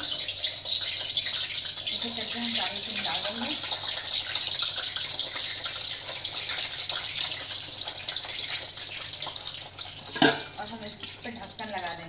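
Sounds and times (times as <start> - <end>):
eggs sizzling in hot oil: 0.0 - 12.0.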